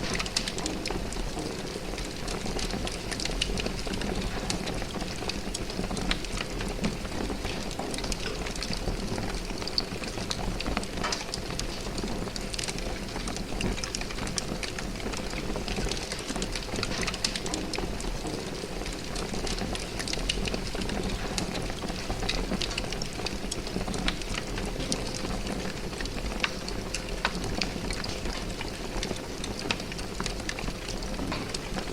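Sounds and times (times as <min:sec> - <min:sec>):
fire crackling and popping: 0:00.0 - 0:31.9.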